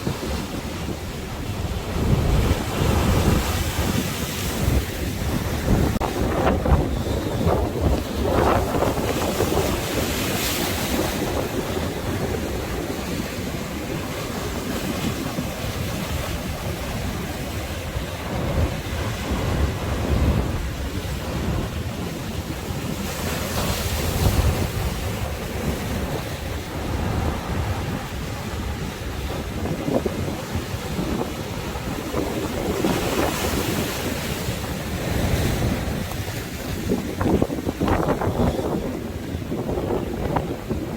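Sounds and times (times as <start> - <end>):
sea waves washing in: 0.0 - 40.9
wind buffeting microphone: 0.0 - 40.9.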